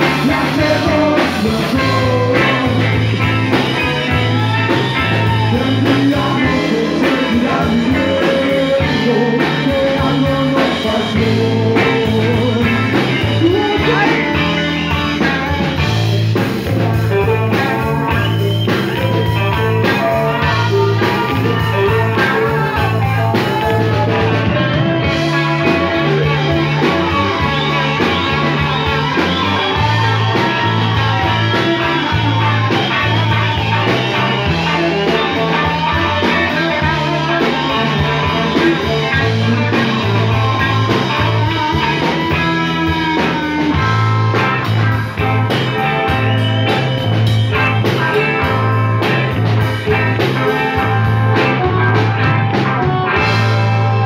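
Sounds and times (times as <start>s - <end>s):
live rock band playing: 0.0s - 54.0s
melodic guitar lead line: 0.0s - 54.0s.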